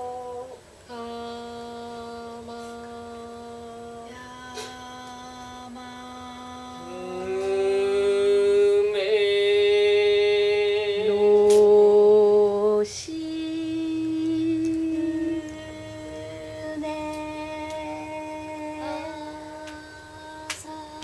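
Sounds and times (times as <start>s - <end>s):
people singing held vowel tones: 0.0s - 21.0s
soft low held tones: 0.0s - 21.0s.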